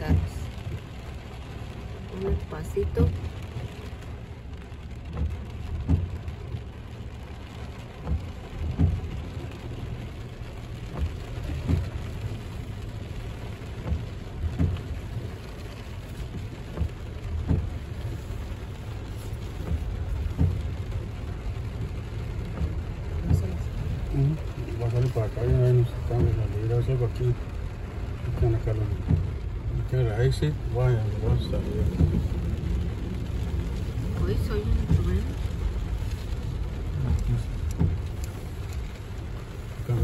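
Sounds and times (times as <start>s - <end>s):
heavy rain on car roof: 0.0s - 40.0s.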